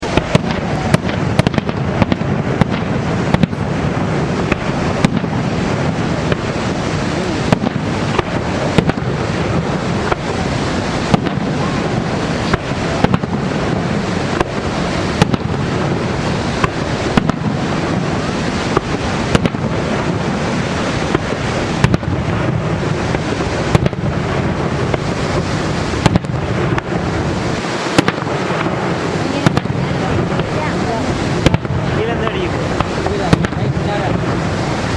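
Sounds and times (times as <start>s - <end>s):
fireworks bangs and pops: 0.0s - 34.9s
waterfall roaring: 0.0s - 34.9s.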